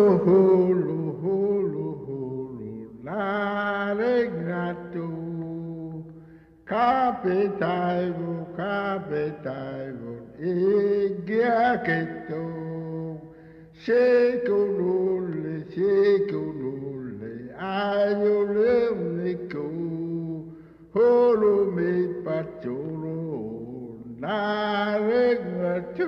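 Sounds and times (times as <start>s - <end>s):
person chanting: 0.0s - 26.0s.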